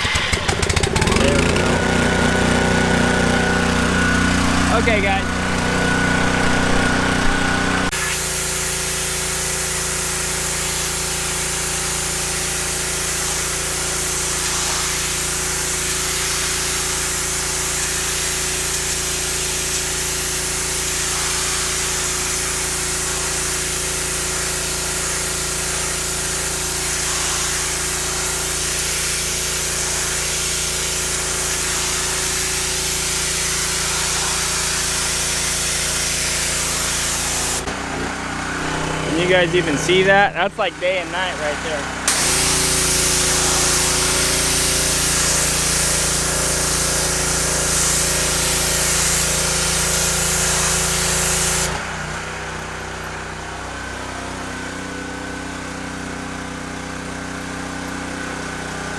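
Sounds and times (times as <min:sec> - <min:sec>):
high-pressure water jet hissing: 0:00.0 - 0:52.7
pressure washer engine hum: 0:00.0 - 0:58.9.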